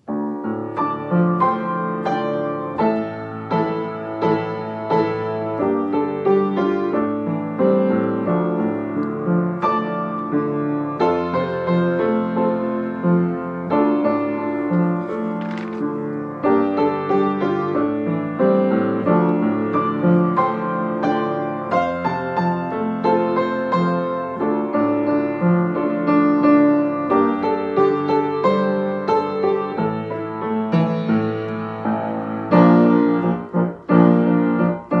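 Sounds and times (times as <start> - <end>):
piano playing chords: 0.0 - 35.0.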